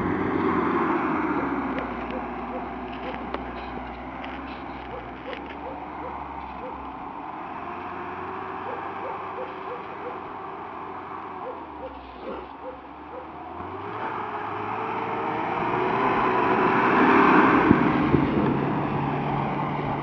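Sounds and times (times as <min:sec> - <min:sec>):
vehicle engine droning in snow: 0:00.0 - 0:20.0.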